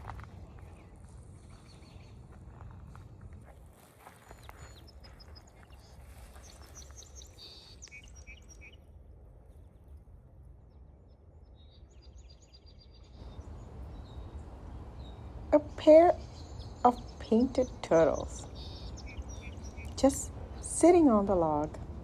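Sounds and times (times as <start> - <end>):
wild birds chirping: 0.0 - 2.9, 4.0 - 10.0, 10.6 - 22.0
low background rumble: 4.3 - 22.0.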